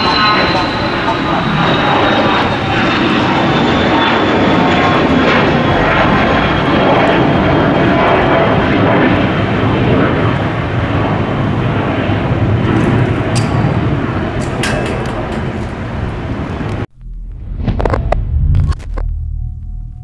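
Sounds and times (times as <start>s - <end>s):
jet engines roaring with high whine: 0.0s - 18.2s.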